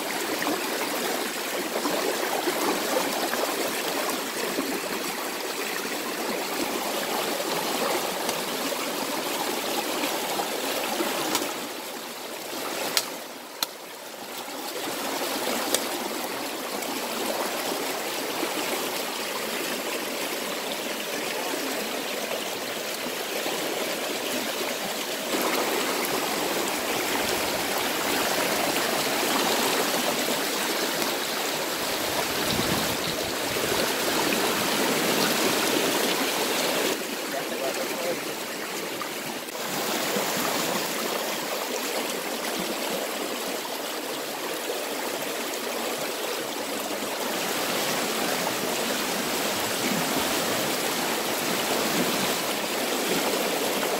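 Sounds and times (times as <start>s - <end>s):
river rushing over rocks: 0.0s - 53.9s.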